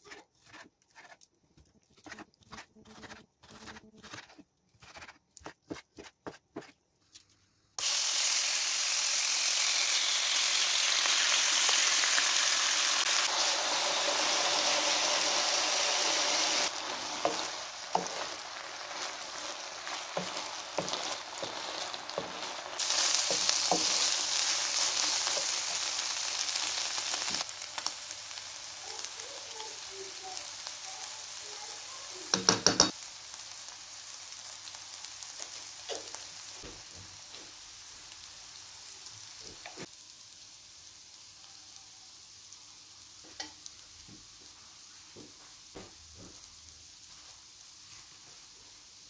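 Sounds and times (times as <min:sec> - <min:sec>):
food sizzling: 0:07.8 - 0:49.0.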